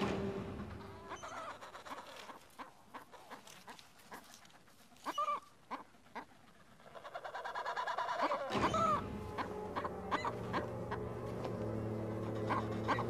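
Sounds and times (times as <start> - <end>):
penguins squawking and clicking: 1.0 - 13.0.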